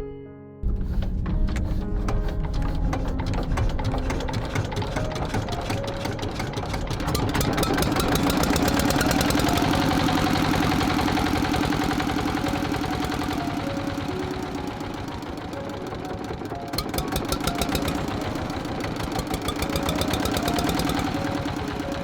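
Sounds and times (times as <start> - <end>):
small engine ticking: 0.7 - 22.0.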